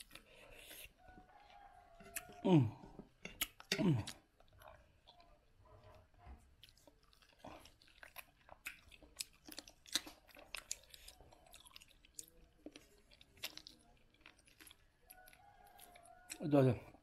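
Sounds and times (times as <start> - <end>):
person chewing with crunches: 0.0 - 17.0.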